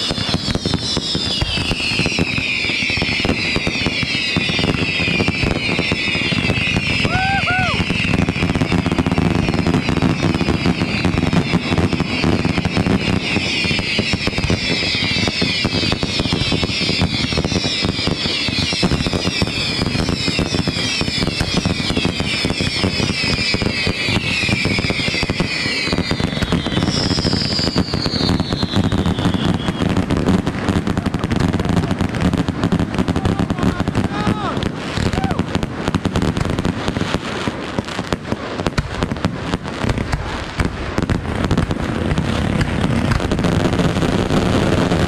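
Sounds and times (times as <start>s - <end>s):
fireworks crackling and popping: 0.0s - 45.0s
whistling fireworks: 0.0s - 45.0s.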